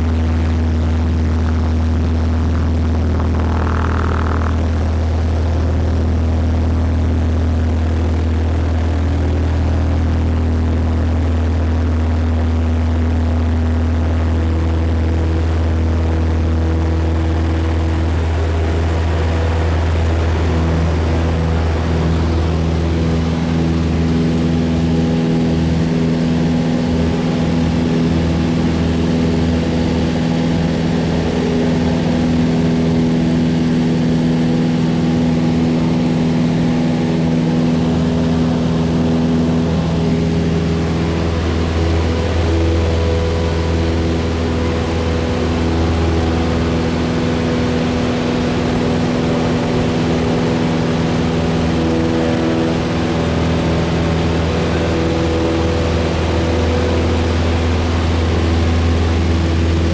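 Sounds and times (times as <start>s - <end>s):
additional engine tone: 0.0s - 59.9s
propeller engine droning: 0.0s - 59.9s.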